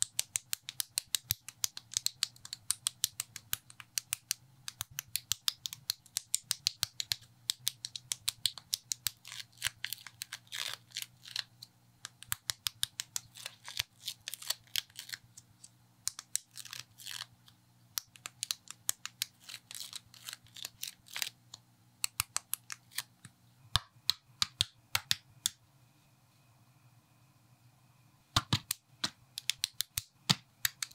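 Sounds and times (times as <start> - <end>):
faint low hum: 0.0 - 30.9.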